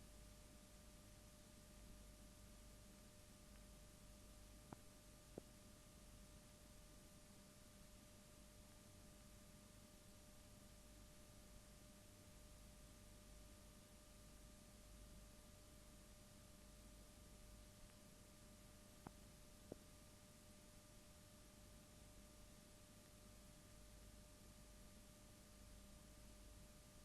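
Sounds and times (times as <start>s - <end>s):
faint steady hiss: 0.0s - 27.0s
thin steady hum: 0.0s - 27.0s.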